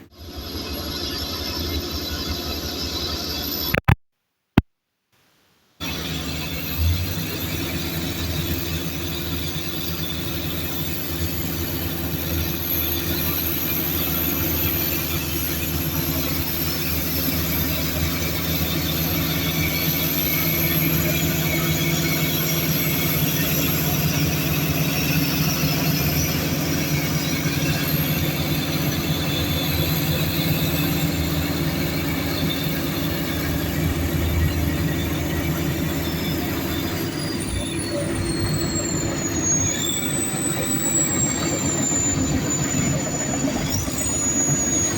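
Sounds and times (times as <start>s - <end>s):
diesel engine running: 5.8s - 44.9s
steel tracks squealing: 5.8s - 44.9s.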